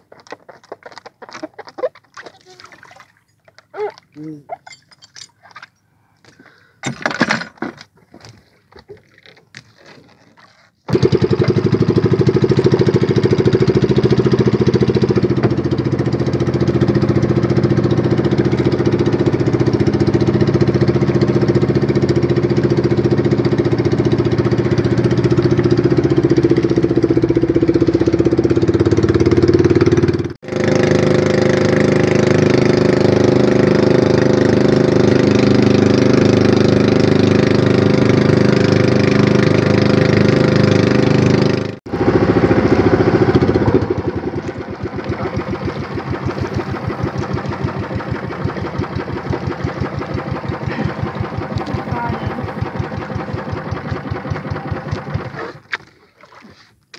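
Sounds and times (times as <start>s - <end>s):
boat engine running: 0.0s - 5.8s, 6.9s - 56.6s.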